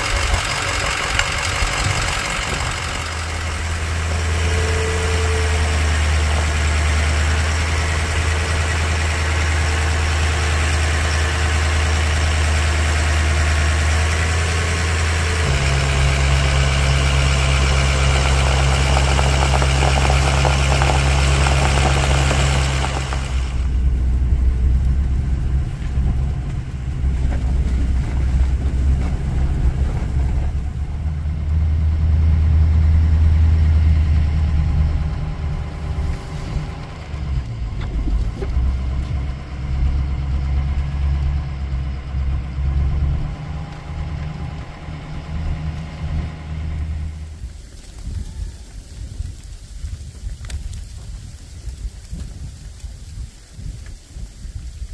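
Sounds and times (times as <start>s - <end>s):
pickup engine drone: 0.0s - 48.0s
tyre and road noise: 0.0s - 54.9s.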